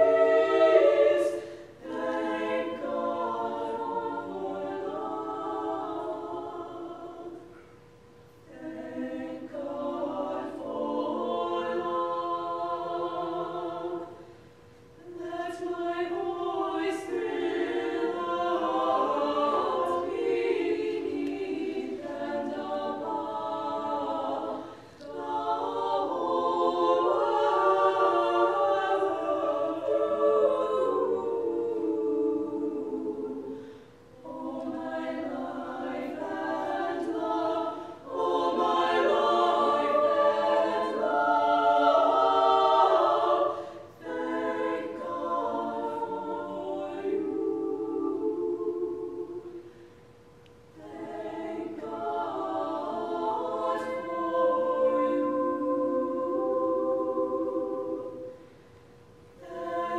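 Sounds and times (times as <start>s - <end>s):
female choir singing a cappella: 0.0s - 59.9s.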